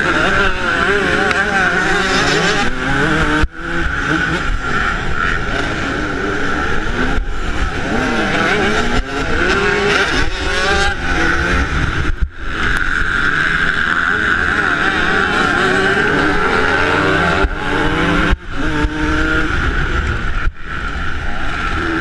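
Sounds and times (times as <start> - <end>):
two-stroke motorcycle engine revving: 0.0 - 22.0.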